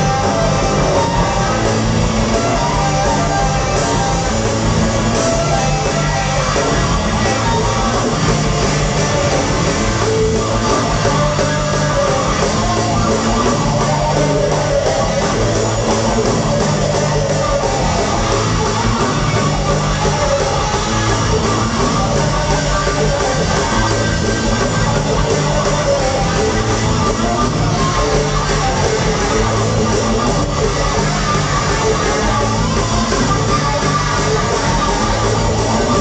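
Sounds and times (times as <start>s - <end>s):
live rock band playing loud: 0.0s - 36.0s
pulsing bass notes: 0.0s - 36.0s.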